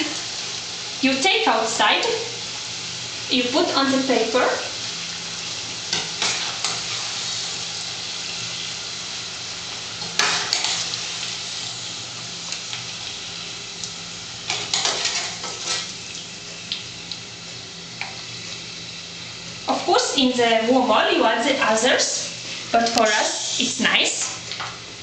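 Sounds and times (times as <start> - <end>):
chips sizzling in hot oil: 0.0 - 25.0.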